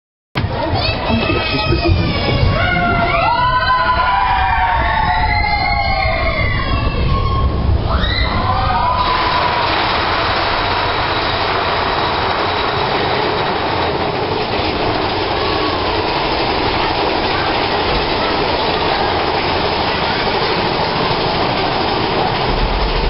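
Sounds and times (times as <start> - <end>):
roller coaster wheels rumbling on rail: 0.5 - 23.0.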